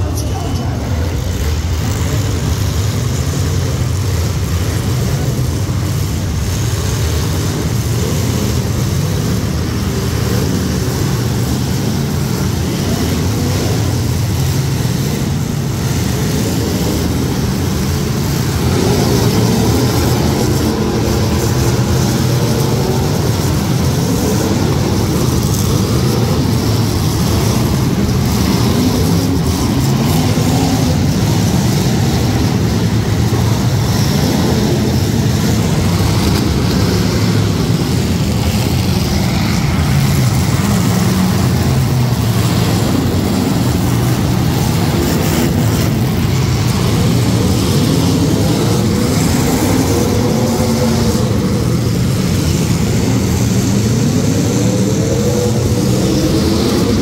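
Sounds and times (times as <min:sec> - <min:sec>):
car engines revving together: 0:00.0 - 0:57.0.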